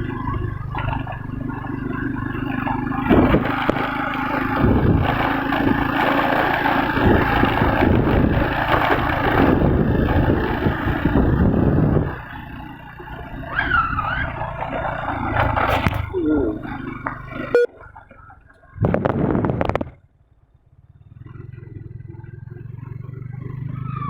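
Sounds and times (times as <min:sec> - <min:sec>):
rattling scraping clatter: 0:00.0 - 0:20.0
engine running: 0:00.0 - 0:24.0.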